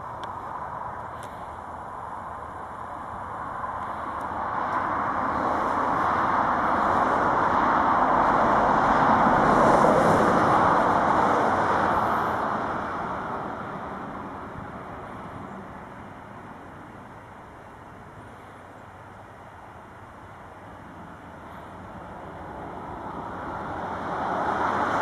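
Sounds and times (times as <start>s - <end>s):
jet engines at taxi power: 0.0s - 25.0s.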